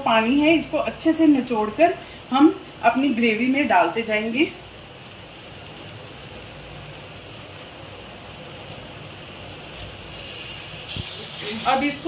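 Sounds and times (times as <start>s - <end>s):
gravy sizzling in a pan: 0.0s - 12.0s.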